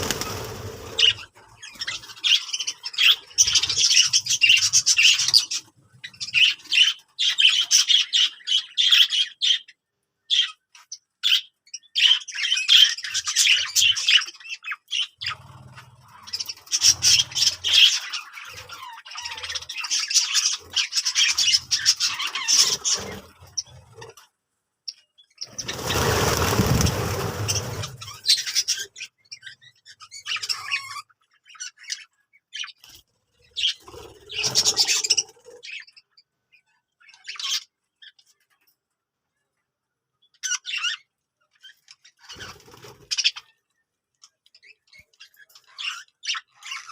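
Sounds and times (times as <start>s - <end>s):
budgerigars chirping and squawking: 0.0s - 24.2s, 24.9s - 38.6s, 40.2s - 46.9s.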